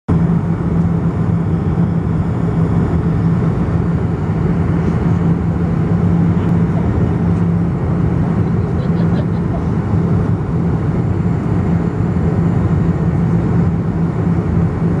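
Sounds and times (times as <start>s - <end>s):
constant low hum: 0.1s - 15.0s.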